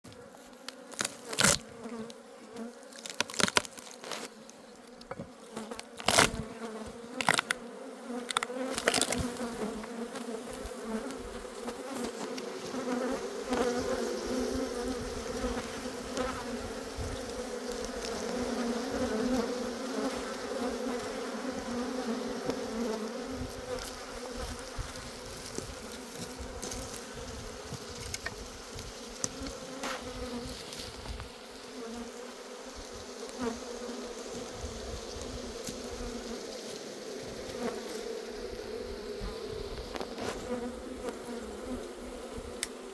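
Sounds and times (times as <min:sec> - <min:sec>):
honeybee colony buzzing: 0:00.0 - 0:42.9.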